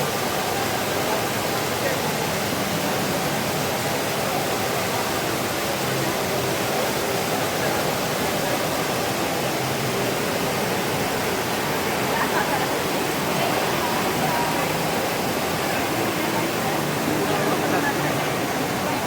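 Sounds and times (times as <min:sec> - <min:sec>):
water fountain splashing: 0:00.0 - 0:19.0.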